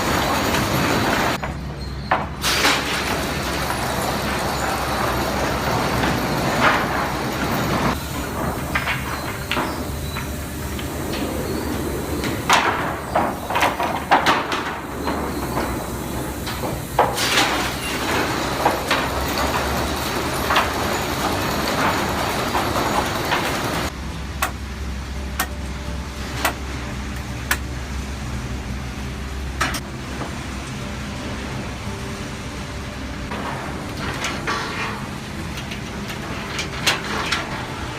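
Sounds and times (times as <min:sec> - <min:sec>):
sawmill machinery humming: 0:00.0 - 0:01.9, 0:02.5 - 0:37.9.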